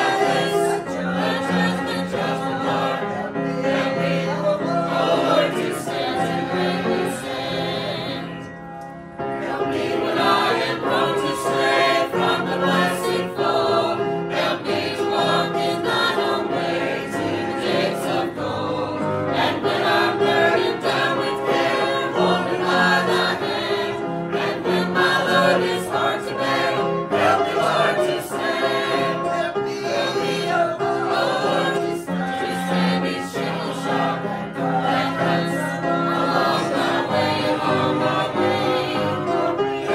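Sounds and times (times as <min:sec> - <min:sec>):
choir singing gospel: 0:00.0 - 0:39.9.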